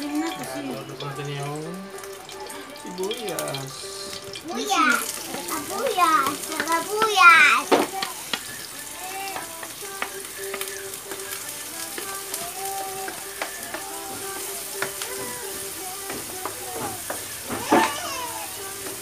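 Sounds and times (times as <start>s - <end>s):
egg mixture sizzling in a pan: 0.0s - 19.0s
spatula scraping and tapping pan: 0.1s - 19.0s.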